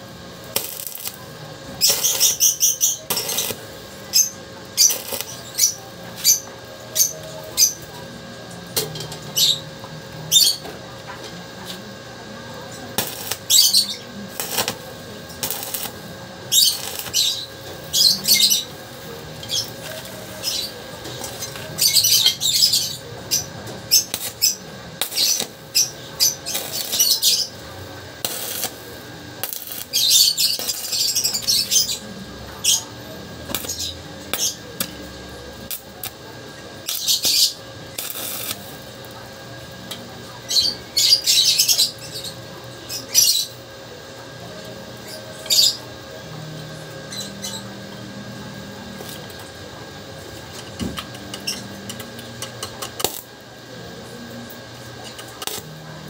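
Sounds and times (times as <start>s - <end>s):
arc welding crackling and sizzling: 0.0s - 56.0s.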